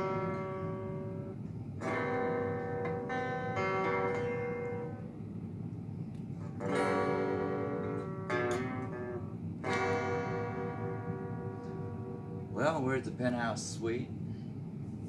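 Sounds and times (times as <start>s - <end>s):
guitar chords strummed: 0.0s - 5.6s, 6.3s - 13.6s.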